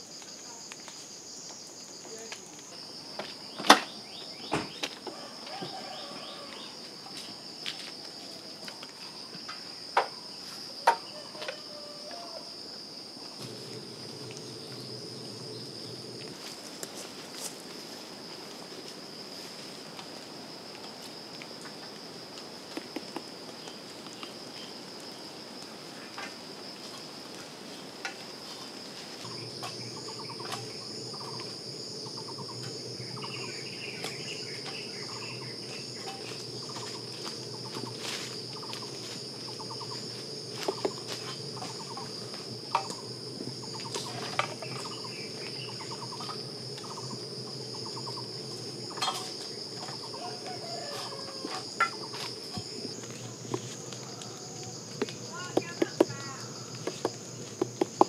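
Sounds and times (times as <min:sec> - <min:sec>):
high-pitched insect drone: 0:00.0 - 0:17.6, 0:28.0 - 0:58.0.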